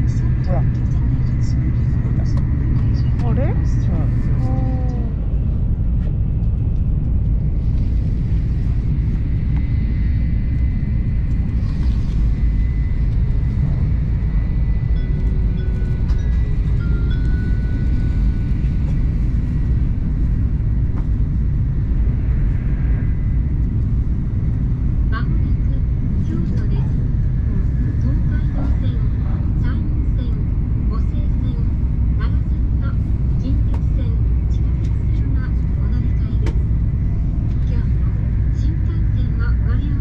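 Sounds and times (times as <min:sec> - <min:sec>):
train rumble inside cabin: 0:00.0 - 0:40.0.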